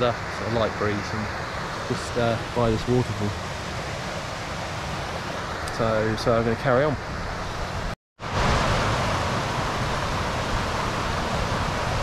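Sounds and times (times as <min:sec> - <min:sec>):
stream over small waterfall: 0:00.0 - 0:12.0
wind rumble on microphone: 0:00.0 - 0:12.0.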